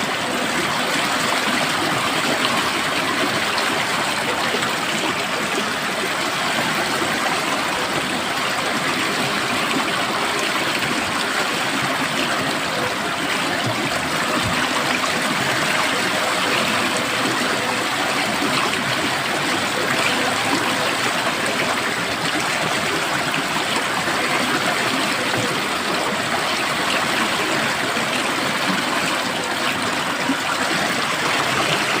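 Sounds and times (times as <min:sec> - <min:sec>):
stream water rushing over stones: 0:00.0 - 0:32.0.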